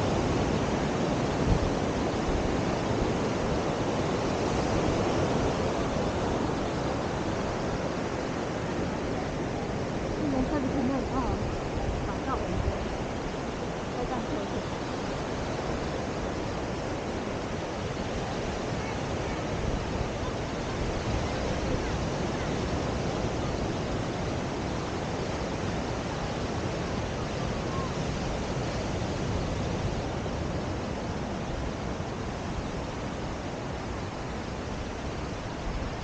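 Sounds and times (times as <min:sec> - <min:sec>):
sea surf: 0:00.0 - 0:36.0
wind on microphone: 0:00.0 - 0:36.0.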